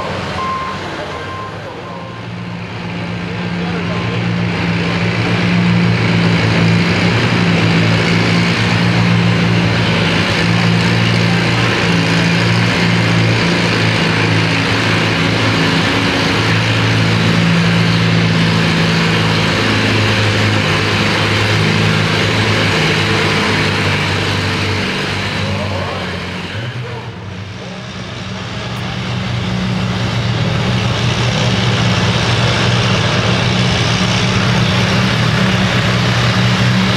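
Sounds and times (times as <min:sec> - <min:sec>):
tractor engine under full load: 0:00.0 - 0:36.9.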